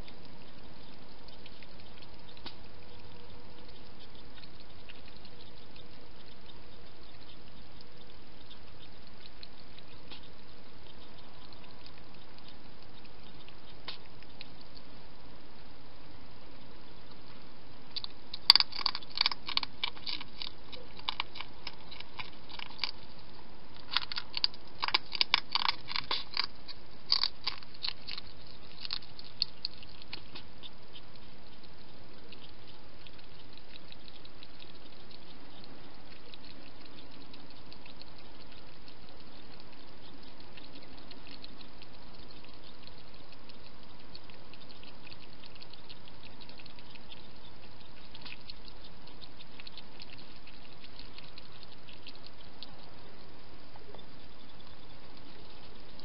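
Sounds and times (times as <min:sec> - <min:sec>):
hedgehog mouth clicking: 0:00.0 - 0:14.9, 0:17.0 - 0:56.0.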